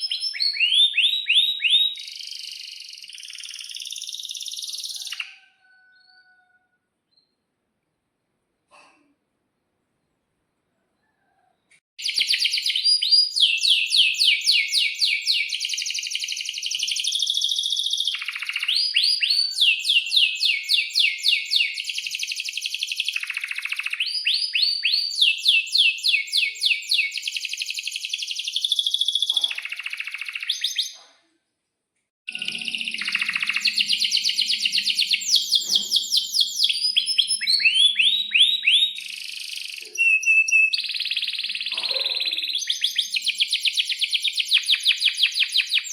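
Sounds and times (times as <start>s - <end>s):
canary singing: 0.0s - 7.4s, 12.0s - 31.0s, 32.3s - 45.9s.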